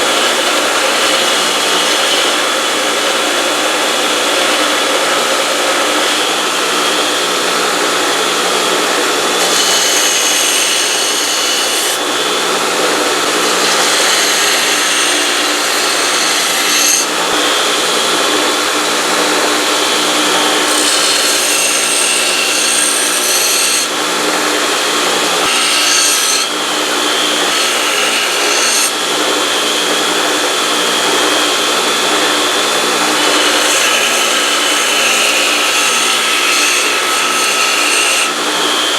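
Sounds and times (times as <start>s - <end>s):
power grinder grinding blade: 0.0s - 38.9s.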